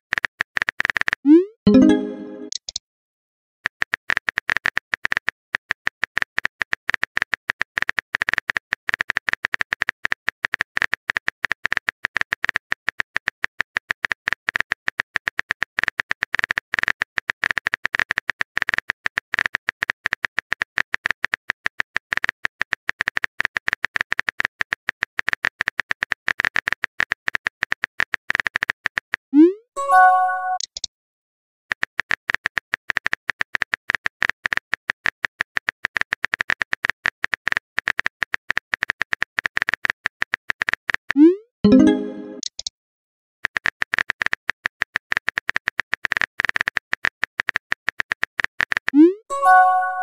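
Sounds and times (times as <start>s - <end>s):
rapid keyboard typing clicks: 0.1s - 2.8s, 3.7s - 29.2s, 31.7s - 42.7s, 43.4s - 49.1s.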